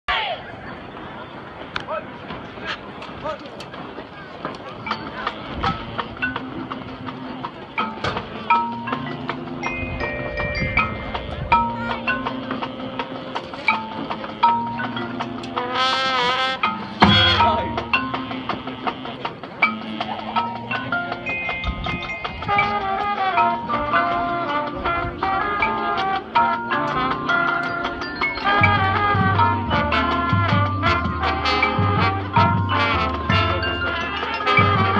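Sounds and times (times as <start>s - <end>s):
marching band music: 0.9s - 34.9s
marimbas and xylophones: 4.7s - 34.9s.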